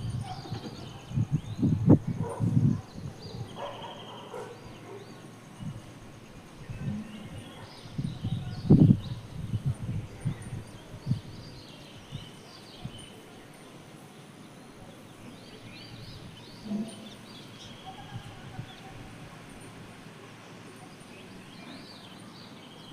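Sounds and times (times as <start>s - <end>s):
outdoor hiss: 0.0s - 22.9s
small birds chirping: 0.0s - 22.9s.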